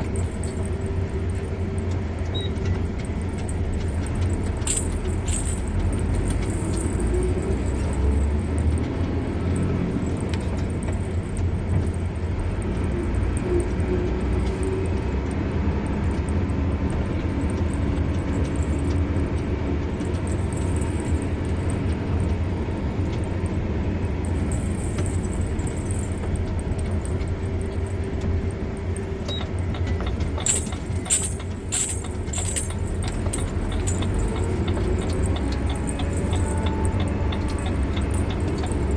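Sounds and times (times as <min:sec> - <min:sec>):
car engine and tyre rumble: 0:00.0 - 0:38.9
light clicks and rattles: 0:00.0 - 0:38.9.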